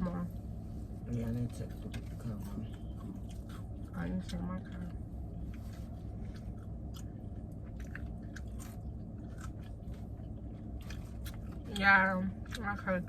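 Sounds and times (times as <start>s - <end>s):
chewing and crunching: 0.0s - 13.0s
steady low hum: 0.0s - 13.0s.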